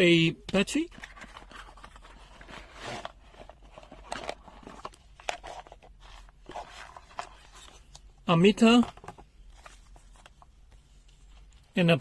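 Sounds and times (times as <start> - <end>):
packaging rustling: 0.8 - 10.5.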